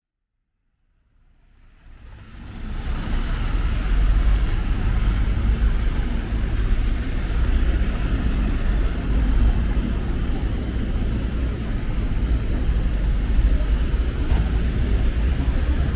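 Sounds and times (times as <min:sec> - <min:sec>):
low traffic rumble: 0:01.8 - 0:15.9
wet road noise: 0:01.8 - 0:15.9.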